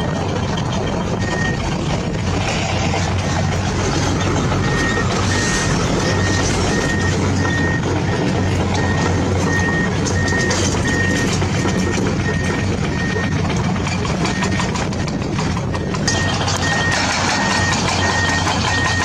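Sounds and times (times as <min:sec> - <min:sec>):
reversing beeper: 0:00.0 - 0:01.7, 0:02.4 - 0:19.0
truck engine hum: 0:00.0 - 0:19.0.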